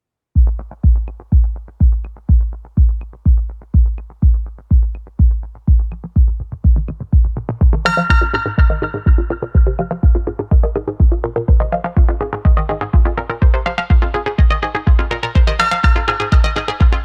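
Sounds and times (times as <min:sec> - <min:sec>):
electronic music: 0:00.4 - 0:17.0
kick drum: 0:00.4 - 0:17.0
synth chords: 0:00.4 - 0:17.0.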